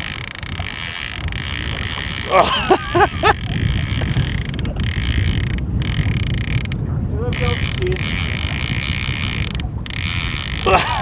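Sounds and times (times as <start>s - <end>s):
boat rumble: 0.0s - 11.0s
fishing reel gears rattling: 0.0s - 11.0s
wind: 0.0s - 11.0s.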